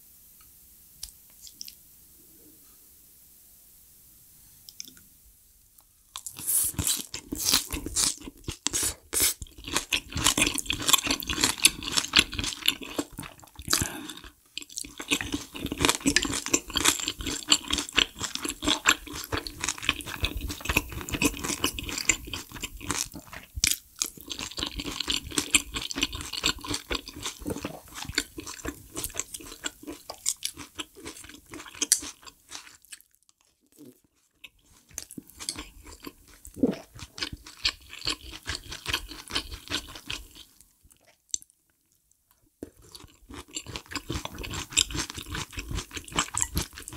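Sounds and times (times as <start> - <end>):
chewing crunchy food: 6.1 - 46.9.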